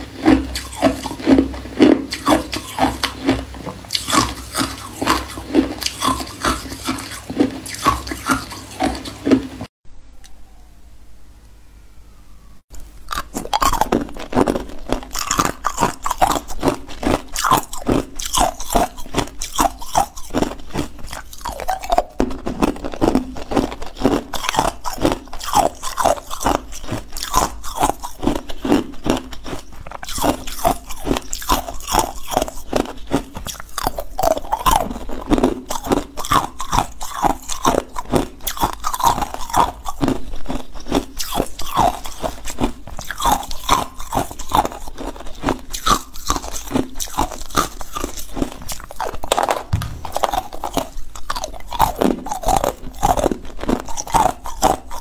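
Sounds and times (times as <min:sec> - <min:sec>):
ice cubes crunching when chewed: 0:00.0 - 0:09.6, 0:12.8 - 0:55.0.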